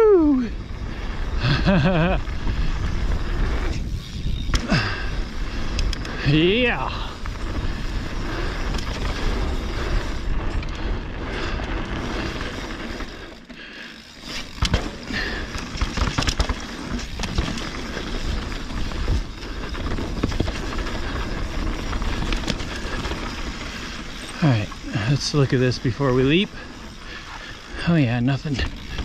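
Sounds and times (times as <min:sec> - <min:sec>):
bike knocking and rattling: 0:00.2 - 0:29.0.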